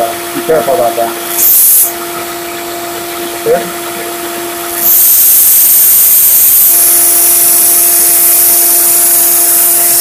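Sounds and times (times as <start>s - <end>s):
belt sander motor hum: 1.2s - 10.0s
blade grinding on belt sander: 1.2s - 10.0s.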